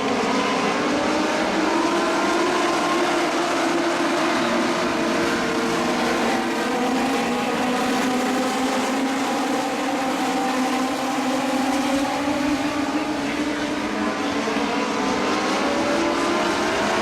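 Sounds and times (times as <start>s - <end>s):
race car engines at high revs: 0.0s - 17.0s.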